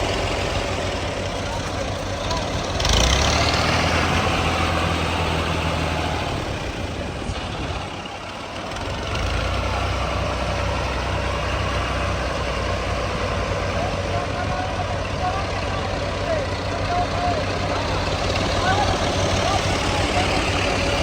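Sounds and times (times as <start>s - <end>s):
diesel engine humming: 0.0s - 21.0s.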